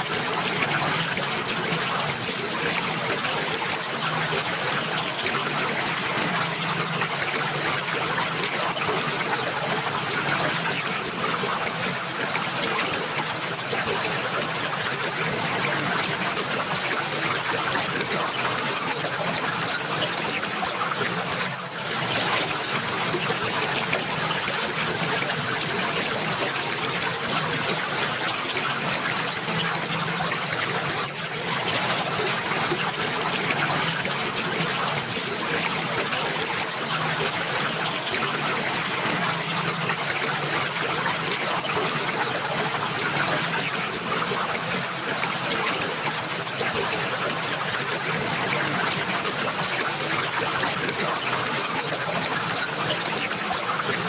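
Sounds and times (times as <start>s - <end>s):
water trickling and flowing: 0.0s - 54.0s.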